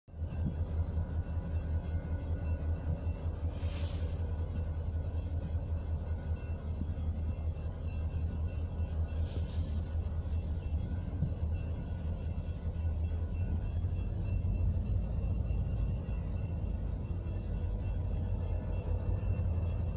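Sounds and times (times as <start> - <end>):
diesel locomotives rumbling: 0.1 - 19.9.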